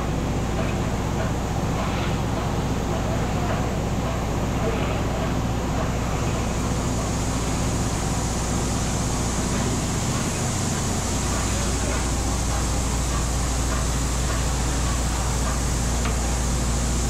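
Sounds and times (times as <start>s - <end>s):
stove blower and fire rushing: 0.0s - 17.0s.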